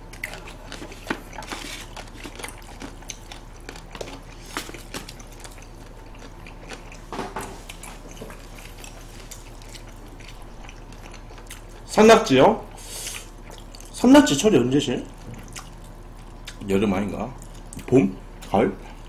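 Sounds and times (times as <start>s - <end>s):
close chewing and mouth sounds: 0.0s - 12.0s, 12.8s - 14.0s, 15.0s - 16.7s, 17.3s - 19.0s.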